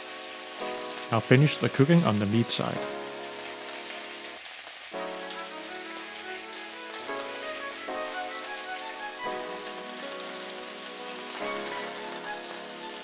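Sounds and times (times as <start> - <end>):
soft background music chords: 0.0 - 4.4, 5.0 - 13.0
fish sizzling in hot oil: 0.0 - 13.0.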